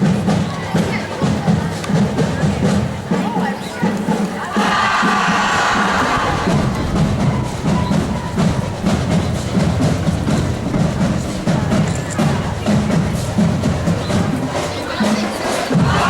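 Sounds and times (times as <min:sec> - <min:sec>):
marching drumline cadence: 0:00.0 - 0:16.0.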